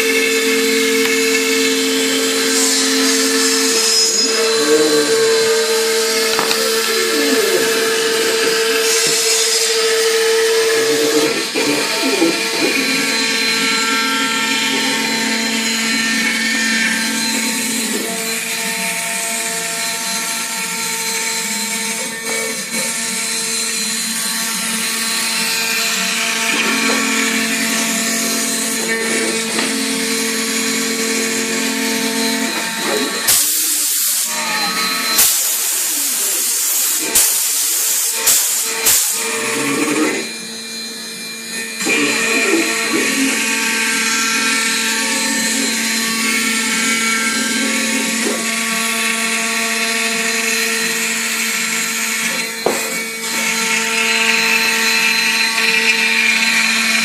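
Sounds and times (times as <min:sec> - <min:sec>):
cnc router spindle whine: 0:00.0 - 0:57.0.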